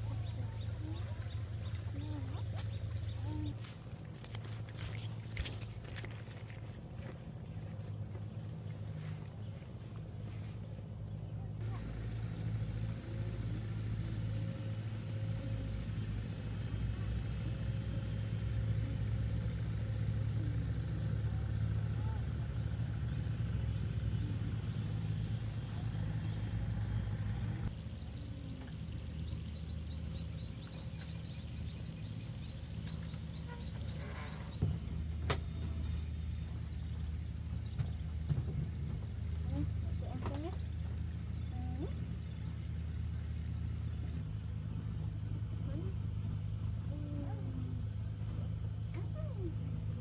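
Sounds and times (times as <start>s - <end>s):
low motor drone: 0.0s - 50.0s.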